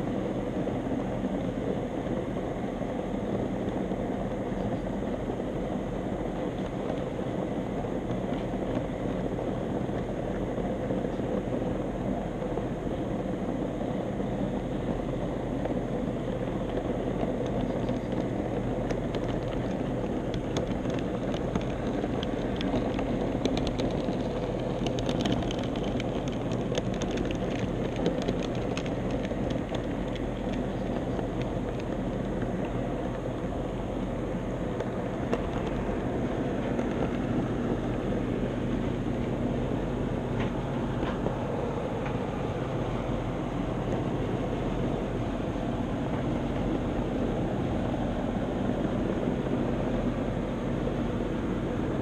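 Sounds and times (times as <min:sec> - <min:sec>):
light clicks of wheels on track: 0:00.0 - 0:52.0
wheels rumbling on rail: 0:00.0 - 0:52.0.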